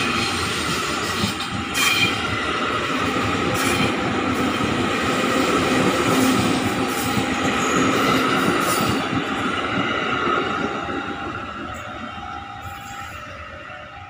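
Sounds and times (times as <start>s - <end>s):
train wheels rumbling on rail: 0.0s - 14.0s
train whine: 0.0s - 14.0s.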